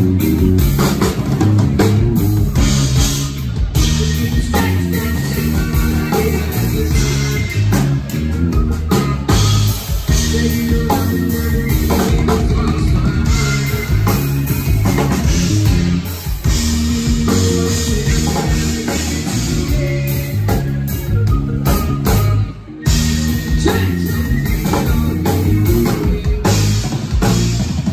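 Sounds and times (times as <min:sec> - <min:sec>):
bass guitar: 0:00.0 - 0:27.9
drum kit: 0:00.0 - 0:27.9
electric guitar: 0:00.0 - 0:27.9.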